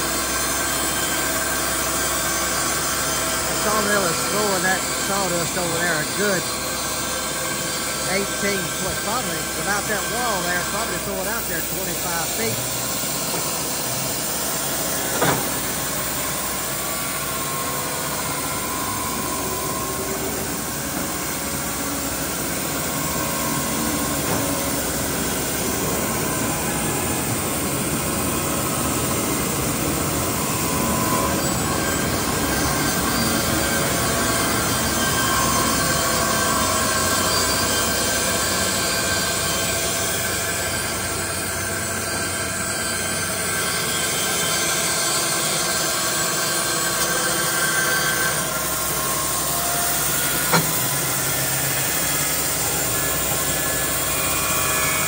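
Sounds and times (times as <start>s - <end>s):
band saw cutting log: 0.1s - 55.0s.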